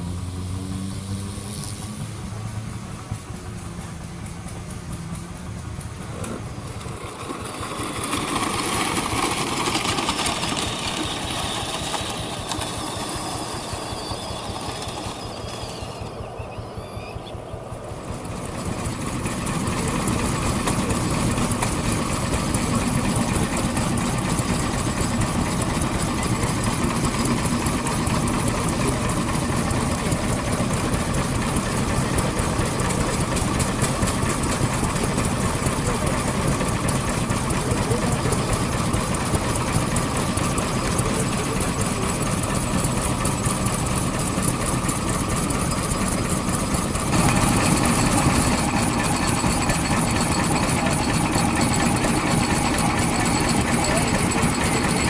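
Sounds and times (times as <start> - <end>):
stationary engines running: 0.0 - 55.0.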